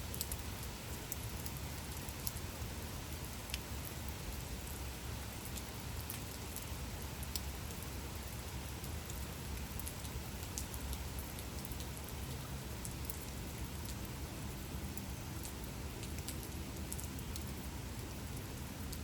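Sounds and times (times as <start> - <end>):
gentle rain hiss: 0.0 - 19.0
raindrops ticking: 0.0 - 19.0.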